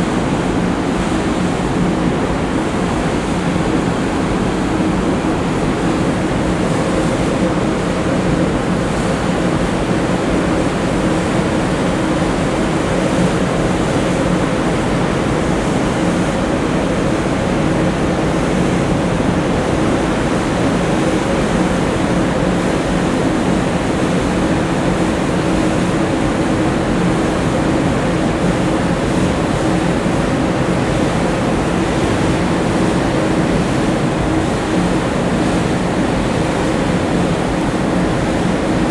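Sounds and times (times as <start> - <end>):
churning water: 0.0 - 38.9
low ship engine drone: 0.0 - 38.9
wind: 0.0 - 38.9.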